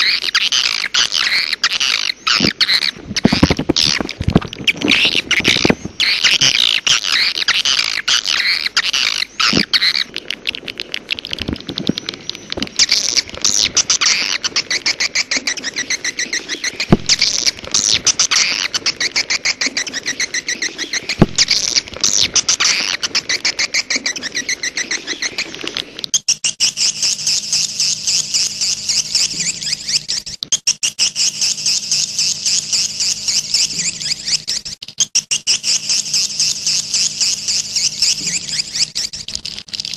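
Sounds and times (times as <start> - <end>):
swiftlets twittering and chirping: 0.0 - 39.9.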